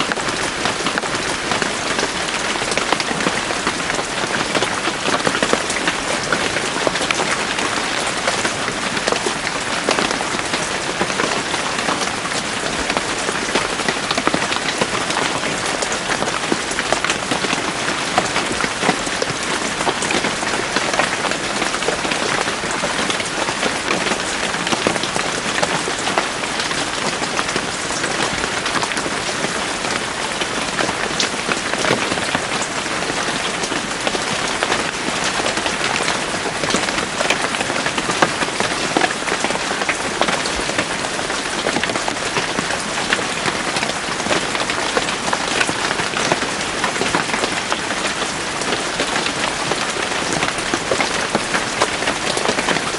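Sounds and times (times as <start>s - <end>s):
rain pattering on leaves: 0.0s - 52.9s.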